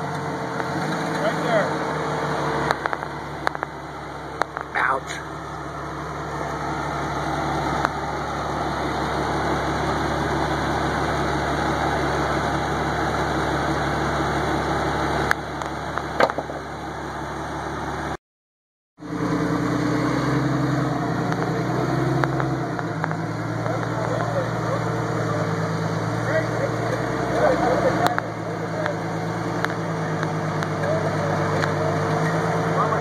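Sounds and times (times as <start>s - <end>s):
engine running at low revs: 0.0s - 18.2s, 19.0s - 33.0s.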